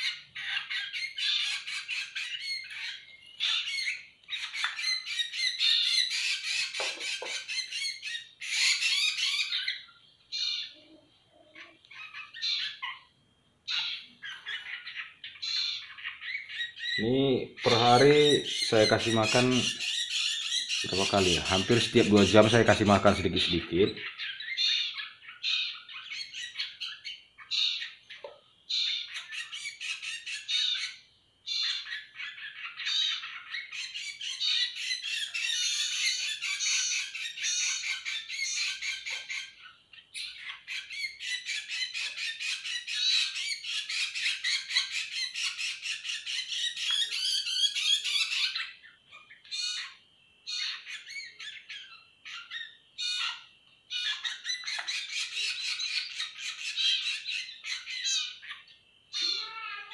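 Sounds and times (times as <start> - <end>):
fledgling birds chirping and squawking: 0.0 - 59.9.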